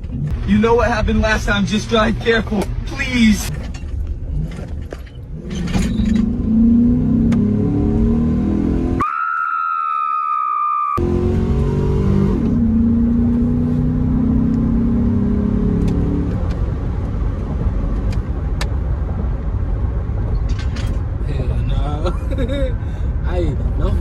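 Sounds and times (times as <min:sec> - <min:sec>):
car engine driving: 0:00.0 - 0:09.0, 0:11.0 - 0:24.0
road and wind rush: 0:00.0 - 0:09.1, 0:09.7 - 0:24.0.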